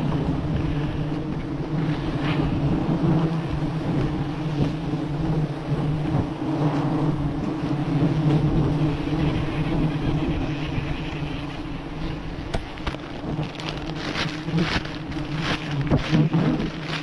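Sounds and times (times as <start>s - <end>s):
bees buzzing: 0.0s - 17.0s
comb crackling and scraping: 0.0s - 17.0s.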